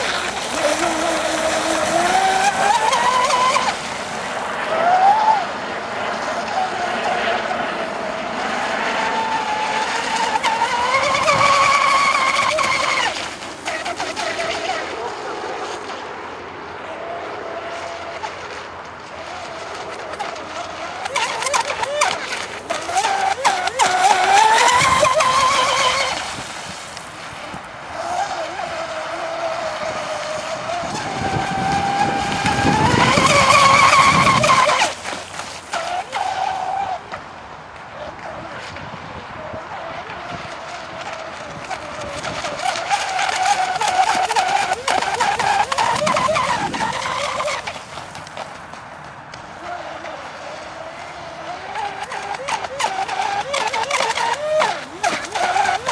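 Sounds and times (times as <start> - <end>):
model boat motor whining: 0.0 - 55.9
spray and hull on water: 0.0 - 55.9.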